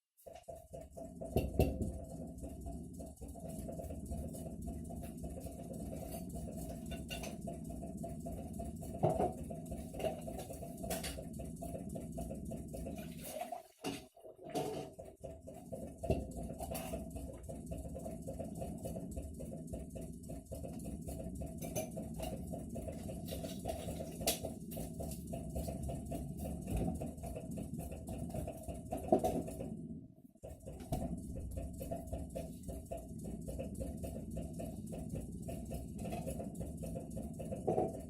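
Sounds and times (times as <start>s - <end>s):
refrigerator hum: 0.4s - 38.0s.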